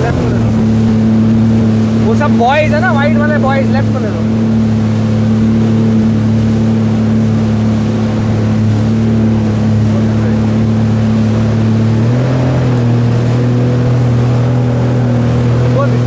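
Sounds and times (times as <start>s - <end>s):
speedboat engine droning: 0.0s - 16.0s.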